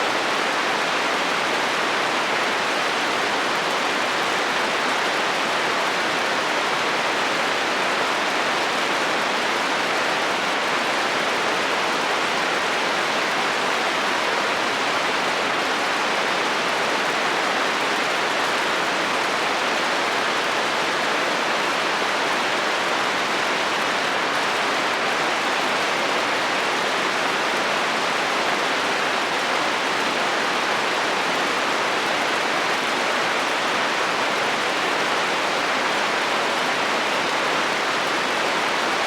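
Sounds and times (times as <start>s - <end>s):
rain on a metal roof: 0.0s - 39.0s.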